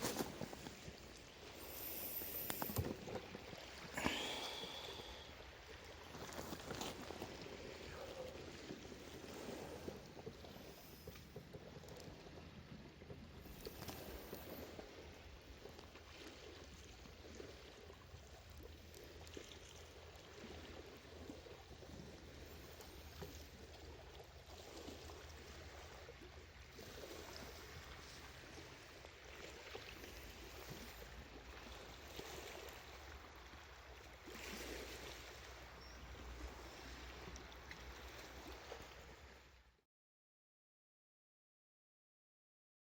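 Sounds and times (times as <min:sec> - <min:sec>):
faint sea waves on shore: 0:00.0 - 0:39.8.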